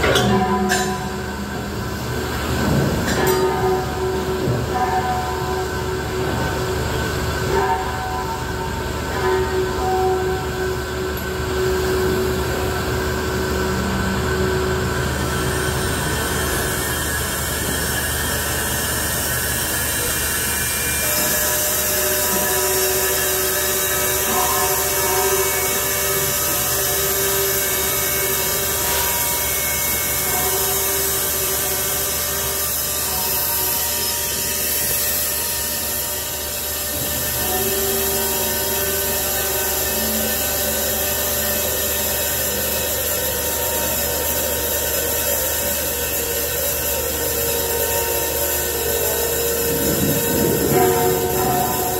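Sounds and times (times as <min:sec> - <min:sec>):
steady mechanical hum: 0:00.0 - 0:51.9.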